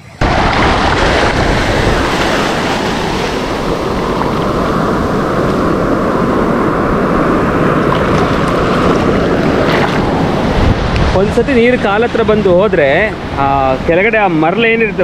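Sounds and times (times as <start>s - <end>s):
wind rumbling on microphone: 0.0s - 15.0s
sea waves washing on sand: 0.2s - 15.0s.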